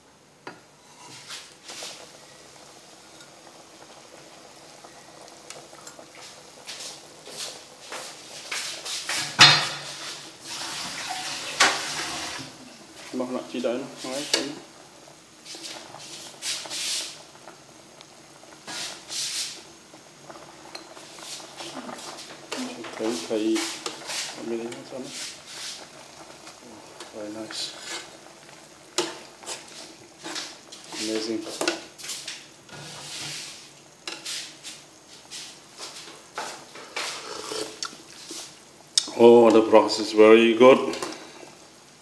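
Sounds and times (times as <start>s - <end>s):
soup bubbling: 0.1s - 42.0s.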